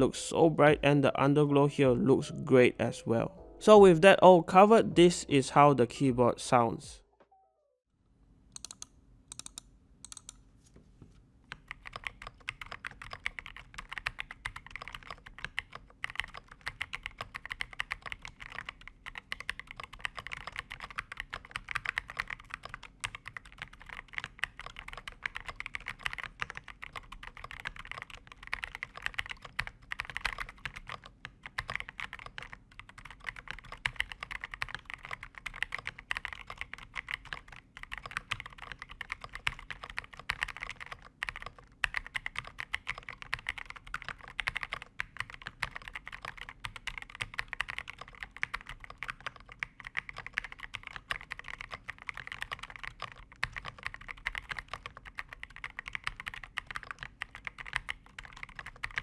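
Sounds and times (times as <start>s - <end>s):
mechanical keyboard typing: 8.6s - 10.4s, 11.5s - 59.0s.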